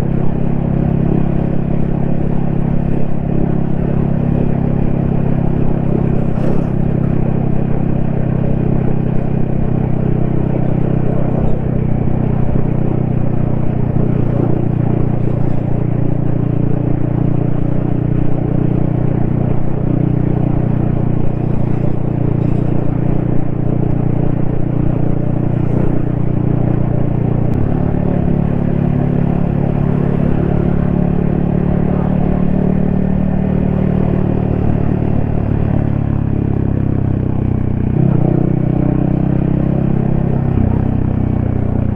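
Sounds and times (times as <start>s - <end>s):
motorcycle engine running: 0.0s - 41.9s
wind and road noise: 0.0s - 41.9s.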